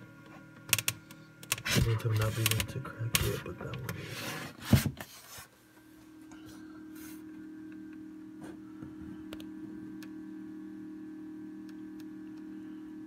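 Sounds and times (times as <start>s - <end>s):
incubator fan motor humming: 0.0s - 13.0s.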